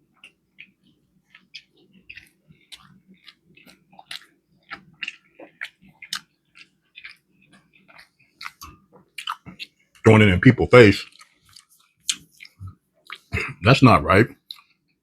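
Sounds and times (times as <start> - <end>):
close chewing mouth sounds: 0.0 - 10.0, 10.9 - 13.6, 14.3 - 15.0.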